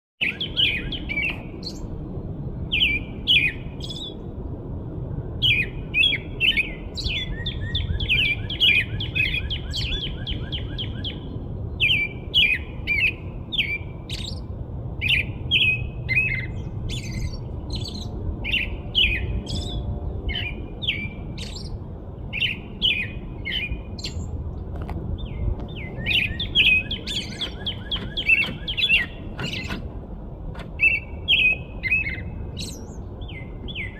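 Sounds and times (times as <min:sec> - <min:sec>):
small birds chirping: 0:00.2 - 0:02.0, 0:02.6 - 0:04.3, 0:05.4 - 0:24.4, 0:25.1 - 0:33.9
steady low rumble: 0:00.2 - 0:33.9.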